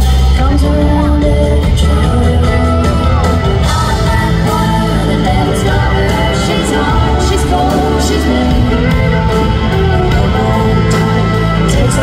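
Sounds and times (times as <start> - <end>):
country band playing: 0.0 - 12.0
fiddle: 0.3 - 12.0
people singing: 0.4 - 12.0.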